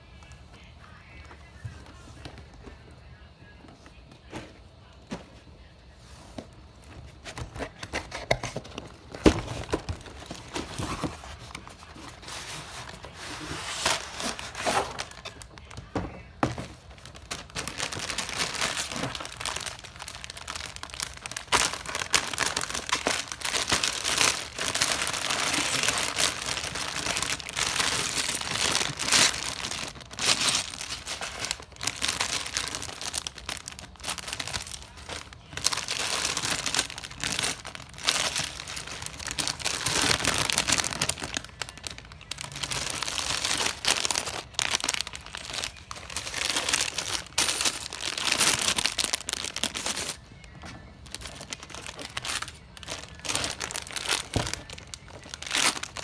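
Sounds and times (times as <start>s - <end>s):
packaging crinkling and tearing: 7.2s - 56.0s.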